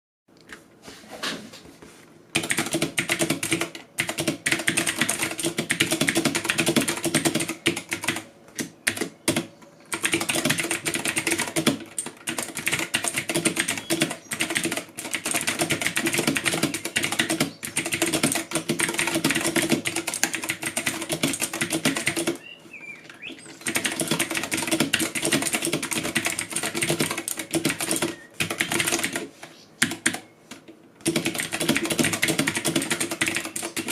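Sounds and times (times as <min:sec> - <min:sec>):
mechanical keyboard typing: 0:02.3 - 0:22.4, 0:23.2 - 0:33.9.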